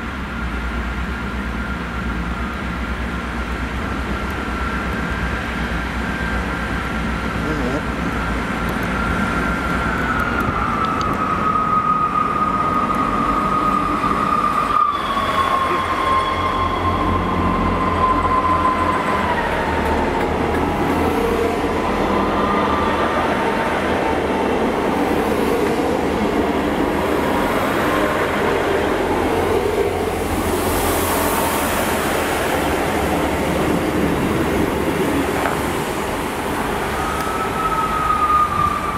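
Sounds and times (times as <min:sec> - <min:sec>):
train rail rumble: 0:00.0 - 0:38.9.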